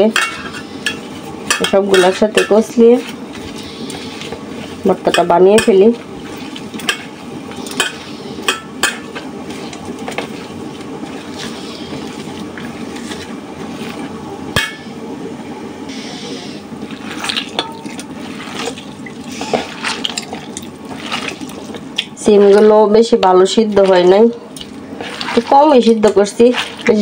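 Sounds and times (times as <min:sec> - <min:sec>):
wet squelching of mashed food: 0:00.0 - 0:14.3, 0:16.6 - 0:27.0.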